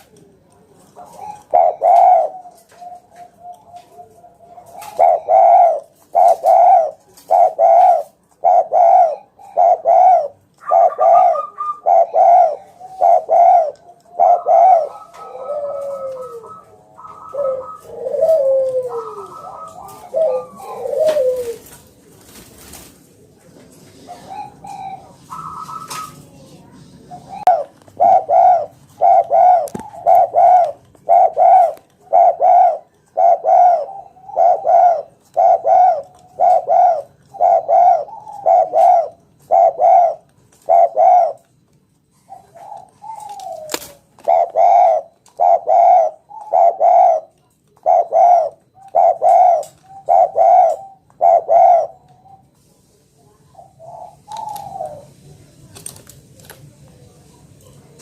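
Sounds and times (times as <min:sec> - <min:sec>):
dove cooing: 0:00.0 - 0:41.5, 0:42.1 - 0:52.6, 0:53.5 - 0:55.3.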